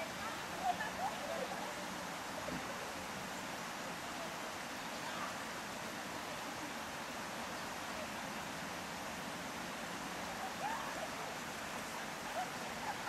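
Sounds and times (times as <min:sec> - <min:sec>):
faint voices: 0:00.0 - 0:13.0
flowing river water: 0:00.0 - 0:13.0.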